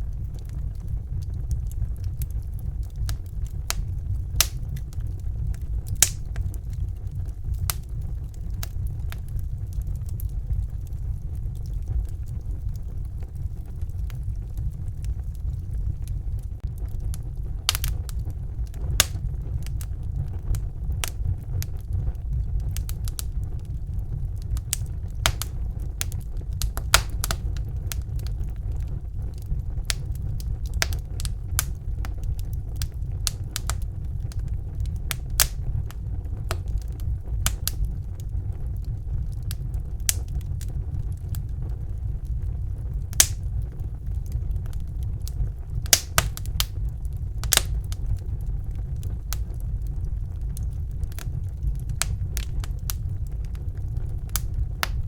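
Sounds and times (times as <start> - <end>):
fire crackling and popping: 0.0 - 55.0
low rumble of fire: 0.0 - 55.0.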